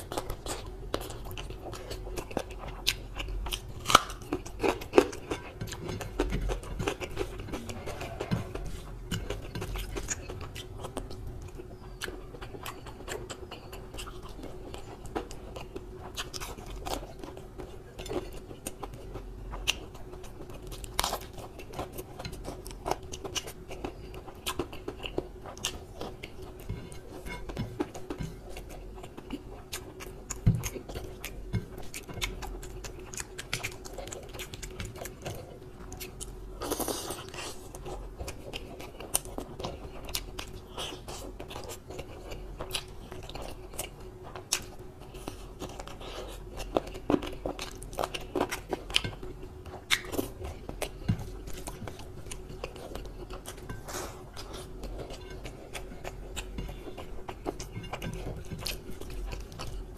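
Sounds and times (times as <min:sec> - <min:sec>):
crunching fried food: 0:00.0 - 0:59.9
faint steady hum: 0:00.0 - 0:59.9
person chewing and smacking: 0:00.0 - 0:59.9.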